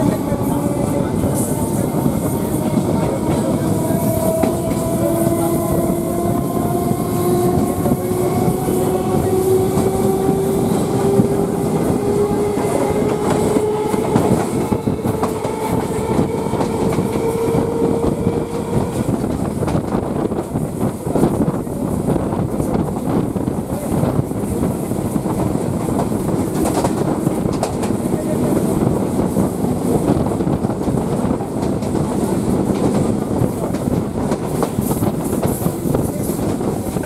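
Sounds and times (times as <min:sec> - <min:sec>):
train wheels rattling on rails: 0:00.0 - 0:37.0.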